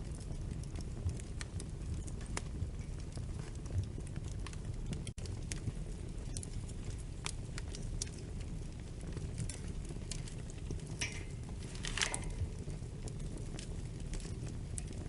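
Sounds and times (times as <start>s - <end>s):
fire rumbling: 0.0s - 15.0s
wood fire popping and snapping: 0.0s - 15.0s.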